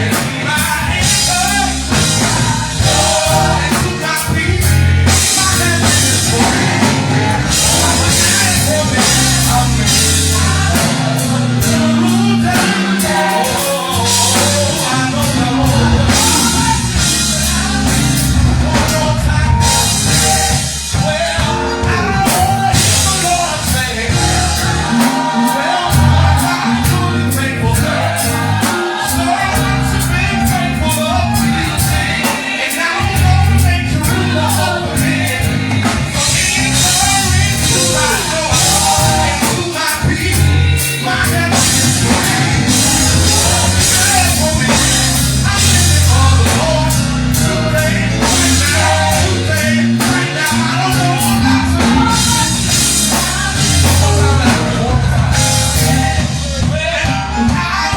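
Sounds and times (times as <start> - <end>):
band with drums and bass: 0.0 - 57.9
voices singing gospel: 0.0 - 57.9.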